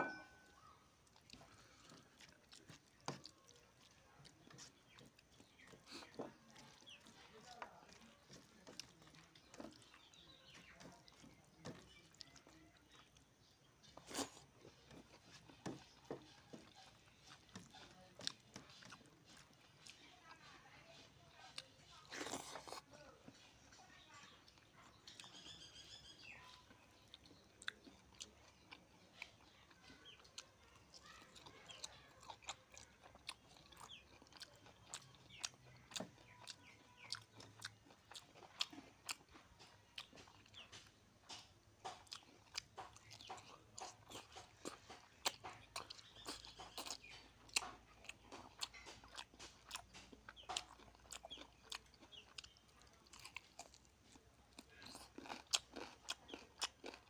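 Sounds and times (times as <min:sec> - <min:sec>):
person chewing: 0:00.0 - 0:20.4, 0:21.0 - 0:23.8, 0:24.4 - 0:57.0.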